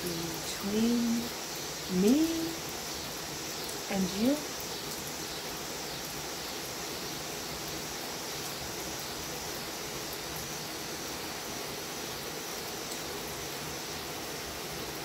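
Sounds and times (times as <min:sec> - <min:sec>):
cicadas droning: 0:00.0 - 0:15.0
steady rain falling: 0:00.0 - 0:15.0.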